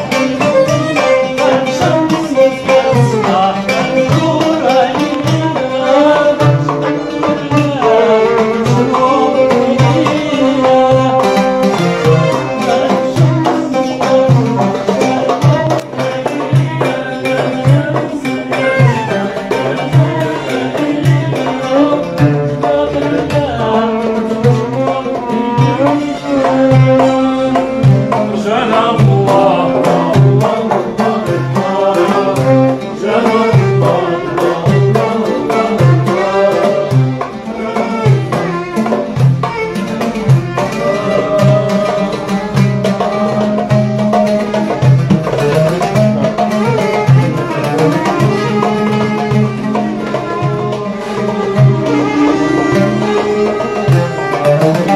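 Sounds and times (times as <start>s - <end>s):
hand drum beat: 0.0s - 54.9s
oud melody: 0.0s - 54.9s.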